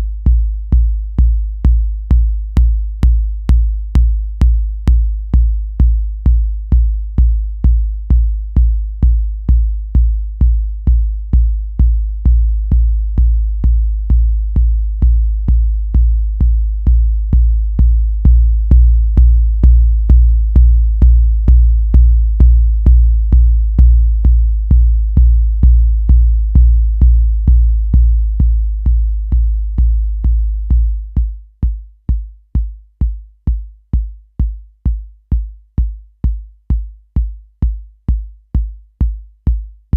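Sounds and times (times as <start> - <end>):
deep booming kick drum: 0.0 - 39.9.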